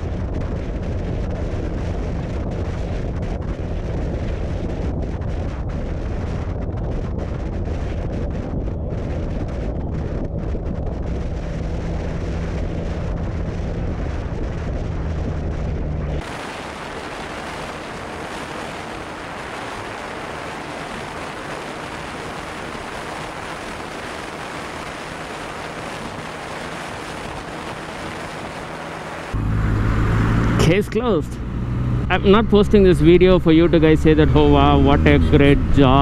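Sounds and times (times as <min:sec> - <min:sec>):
motorcycle engine drone: 0:00.0 - 0:36.0
wind rushing: 0:00.0 - 0:36.0.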